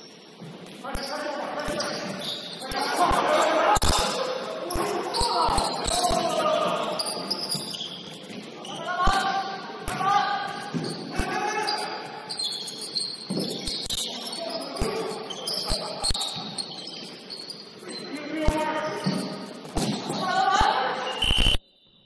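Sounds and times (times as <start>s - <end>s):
sneakers squeaking on hardwood: 0.0s - 2.8s, 4.7s - 21.4s
players calling out: 1.0s - 21.4s.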